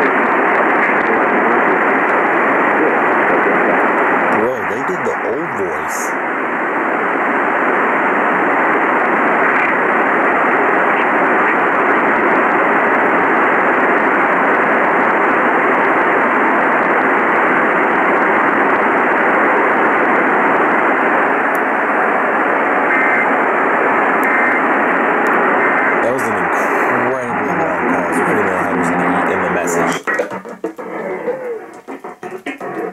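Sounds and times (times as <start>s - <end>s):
radio static hiss: 0.0s - 32.9s.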